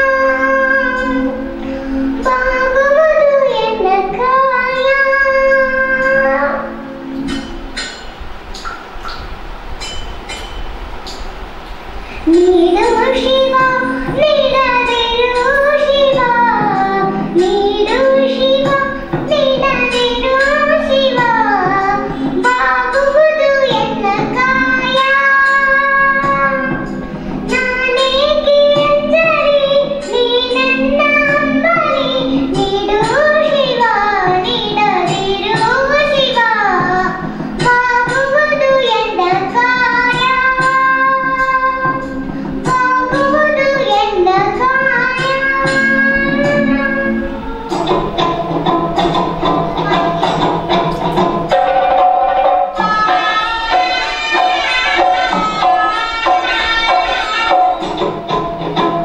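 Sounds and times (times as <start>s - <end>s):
girl singing into a microphone: 0.0s - 7.6s, 11.8s - 51.5s, 52.6s - 58.9s.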